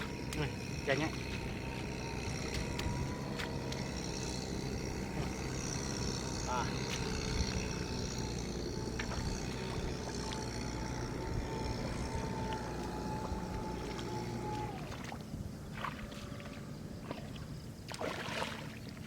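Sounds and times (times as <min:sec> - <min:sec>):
tractor engine running: 0:00.0 - 0:17.8.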